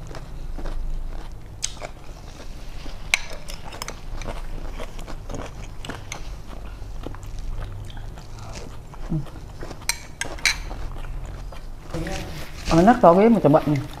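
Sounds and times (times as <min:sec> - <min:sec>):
chewing: 0:00.0 - 0:12.2.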